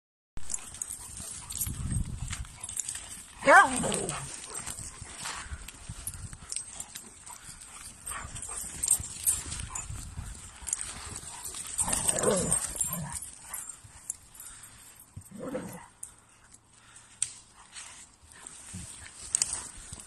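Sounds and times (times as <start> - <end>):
running footfalls through undergrowth: 0.5 - 14.6, 17.7 - 20.0.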